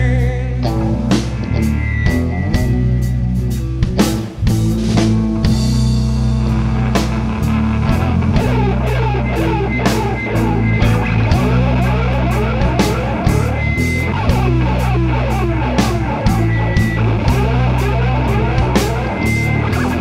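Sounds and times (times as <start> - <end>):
drum kit: 0.0 - 20.0
electric guitars: 0.0 - 20.0
sustained bass notes: 0.0 - 20.0
lead guitar runs: 4.0 - 20.0.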